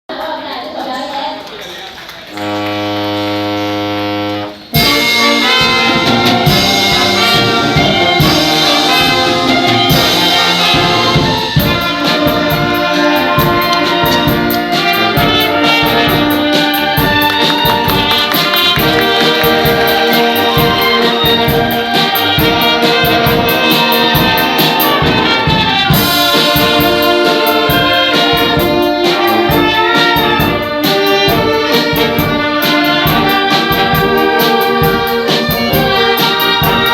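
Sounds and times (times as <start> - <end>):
brass band music with beat: 2.2 - 36.9.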